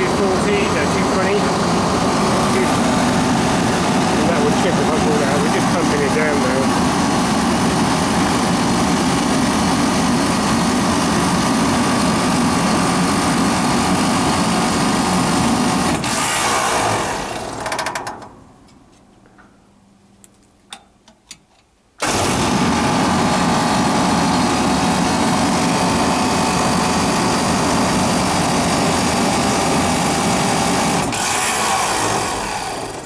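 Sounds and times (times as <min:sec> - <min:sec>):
refrigeration compressor running: 0:00.0 - 0:18.5, 0:22.0 - 0:33.0.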